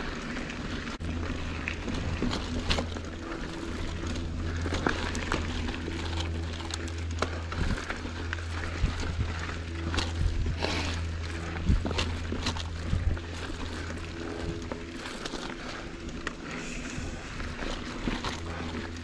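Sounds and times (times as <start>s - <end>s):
bike rattling and clicking: 0.0s - 19.0s
bike tyres on dirt trail: 0.0s - 19.0s
steady low hum: 0.0s - 19.0s.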